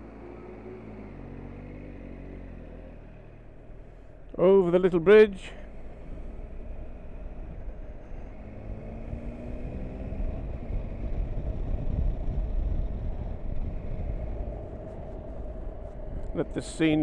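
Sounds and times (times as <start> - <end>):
motorcycle engine accelerating: 0.0 - 17.0
wind and road noise: 0.0 - 17.0.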